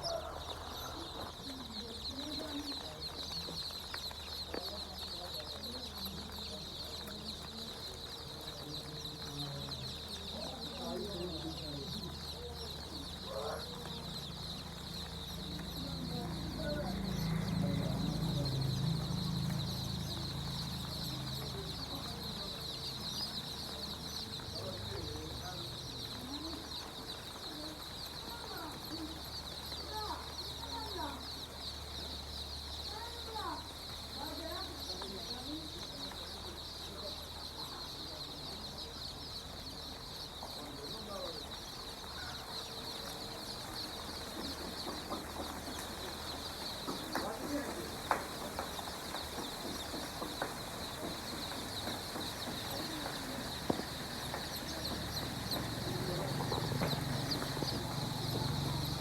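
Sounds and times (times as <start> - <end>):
chickens chirping: 0.0 - 59.0
chickens clucking: 0.0 - 59.0.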